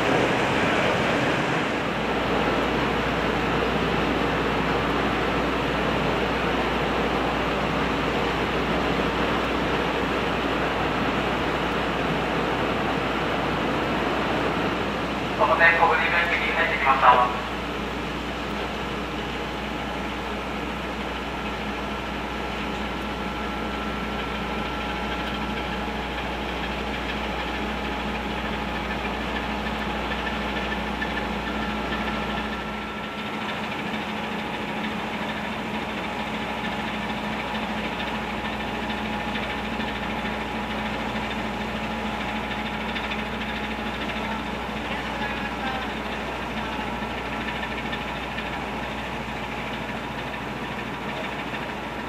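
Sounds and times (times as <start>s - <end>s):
ship engine drone: 0.0s - 52.0s.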